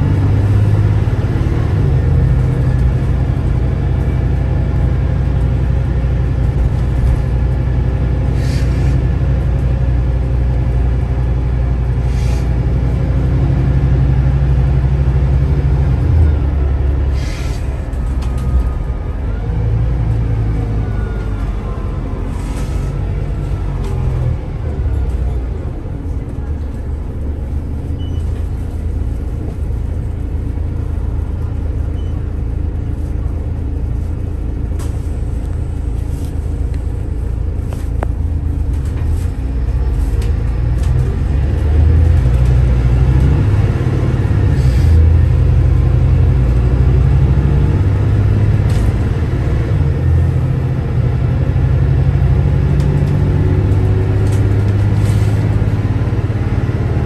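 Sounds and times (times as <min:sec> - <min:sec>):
bus diesel engine rumbling: 0:00.0 - 0:57.0.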